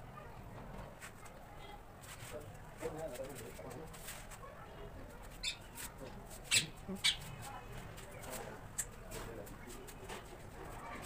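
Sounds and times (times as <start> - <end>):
faint background voices: 0.0 - 11.0.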